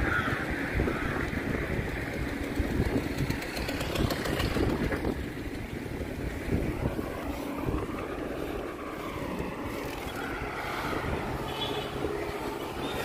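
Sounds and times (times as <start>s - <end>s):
bicycle road rumble: 0.0s - 13.0s
wind over microphone: 0.0s - 13.0s.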